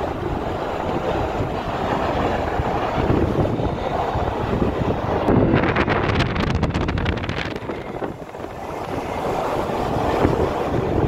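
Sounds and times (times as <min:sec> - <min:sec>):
vehicle road rumble: 0:00.0 - 0:11.0
wind hitting microphone: 0:00.0 - 0:11.0.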